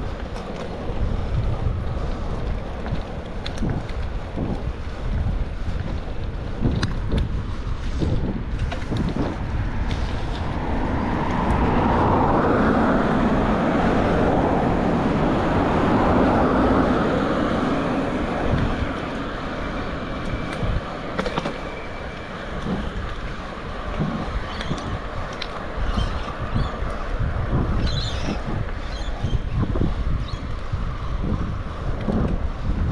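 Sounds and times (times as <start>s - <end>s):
wind rumbling on microphone: 0.0s - 32.9s.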